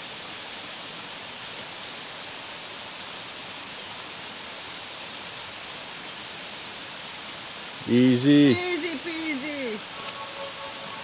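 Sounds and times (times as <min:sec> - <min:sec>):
water flowing over rocks: 0:00.0 - 0:11.0.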